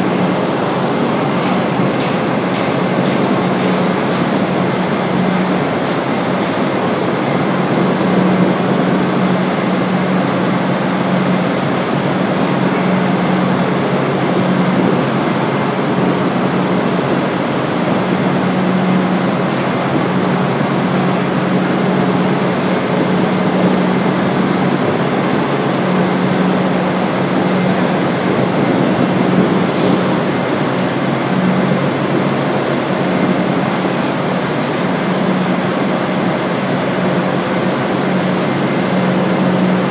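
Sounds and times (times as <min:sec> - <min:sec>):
industrial machinery drone: 0:00.0 - 0:39.9.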